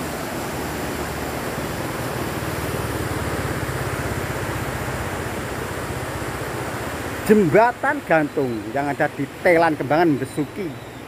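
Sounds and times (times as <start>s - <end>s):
river rushing in flood: 0.0s - 11.0s.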